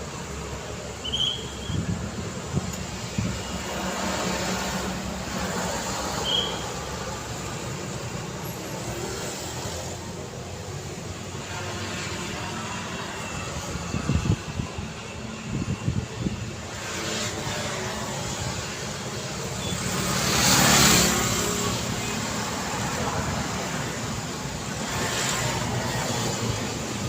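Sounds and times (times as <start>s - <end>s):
road traffic passing: 0.0s - 27.0s.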